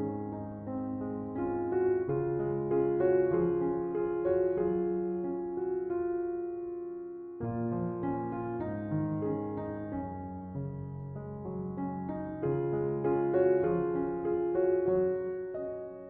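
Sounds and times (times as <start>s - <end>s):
soft electric piano music: 0.0s - 16.0s.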